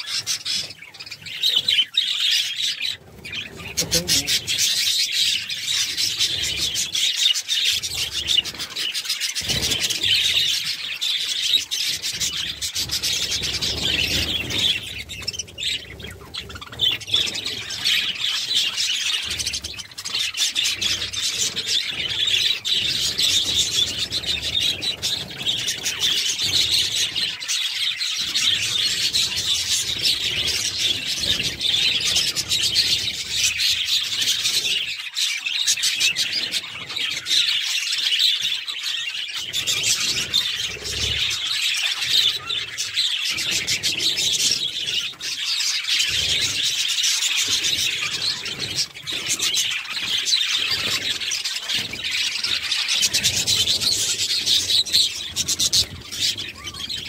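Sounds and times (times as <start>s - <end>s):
flock of budgerigars chattering: 0.0s - 57.0s.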